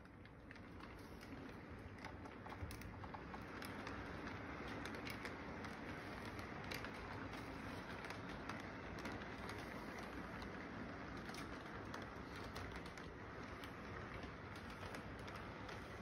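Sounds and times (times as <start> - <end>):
light clicks of train cars: 0.0 - 16.0
model train wheels rumbling on track: 0.0 - 16.0.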